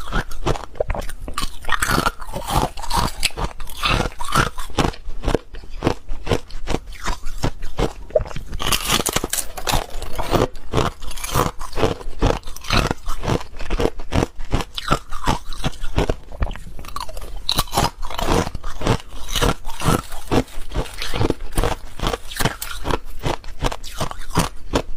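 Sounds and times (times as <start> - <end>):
ice being chewed: 0.0 - 24.9.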